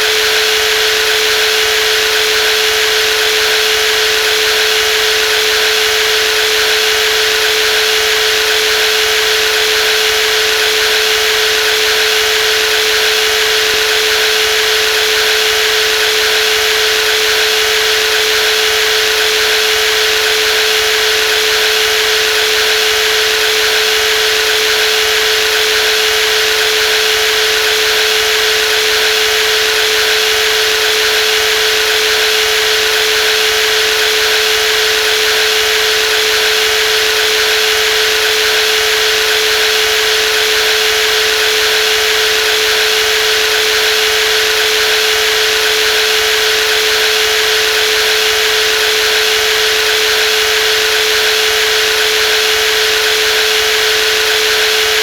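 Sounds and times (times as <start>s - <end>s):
jigsaw motor running: 0.0s - 55.0s.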